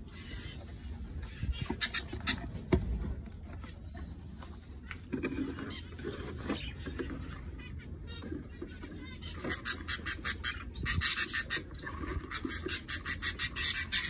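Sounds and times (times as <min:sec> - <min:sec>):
birds raspy chirps: 0:00.0 - 0:14.0.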